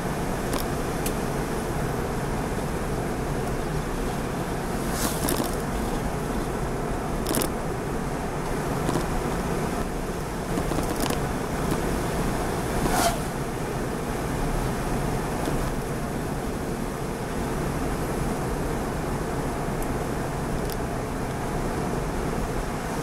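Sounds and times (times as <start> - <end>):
road noise inside moving car: 0.0 - 23.0.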